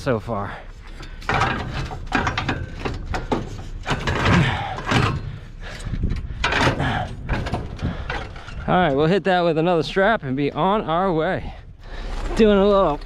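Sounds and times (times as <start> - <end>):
metal clanks and knocks: 0.8 - 11.6.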